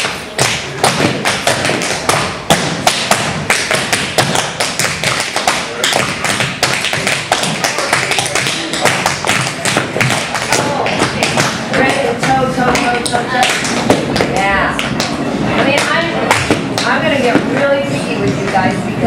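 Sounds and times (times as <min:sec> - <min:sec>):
tap shoes on hard floor: 0:00.0 - 0:18.6.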